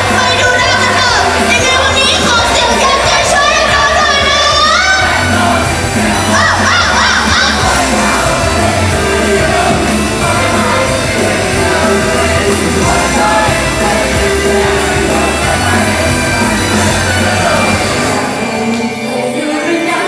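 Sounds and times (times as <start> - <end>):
girls group singing: 0.0 - 20.0
pop song over loudspeakers: 0.0 - 20.0.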